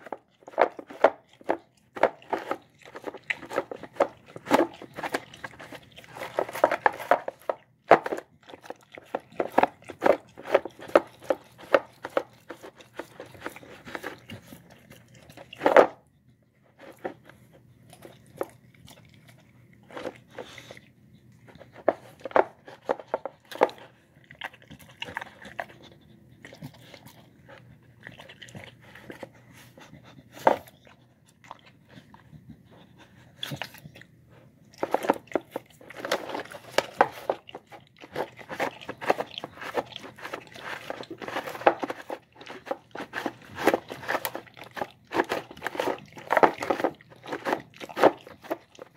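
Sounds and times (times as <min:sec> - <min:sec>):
dog chewing and licking: 0:00.0 - 0:48.9.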